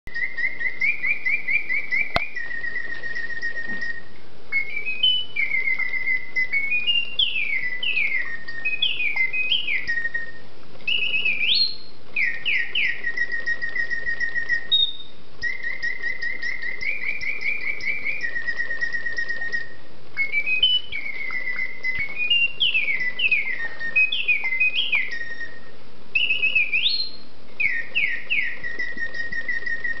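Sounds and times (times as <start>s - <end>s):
mechanical bird whistling trills: 0.1s - 30.0s.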